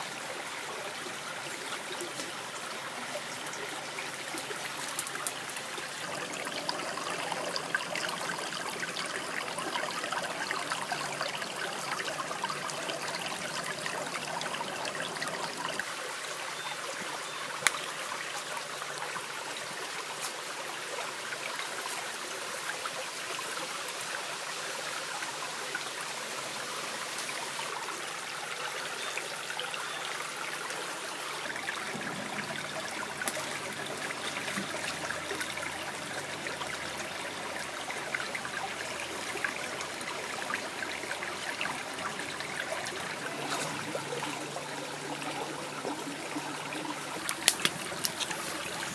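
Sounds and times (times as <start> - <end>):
stream trickling over stones: 0.0 - 48.9.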